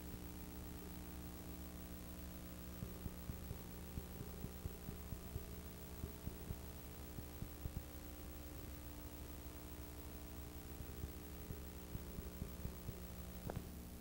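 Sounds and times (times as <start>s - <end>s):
low electrical hum: 0.0s - 14.0s
tape hiss: 0.0s - 14.0s.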